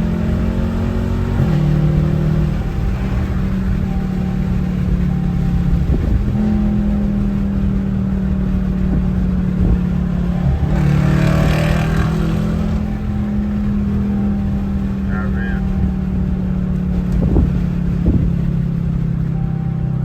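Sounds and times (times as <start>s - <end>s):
car exhaust droning: 0.0s - 20.0s.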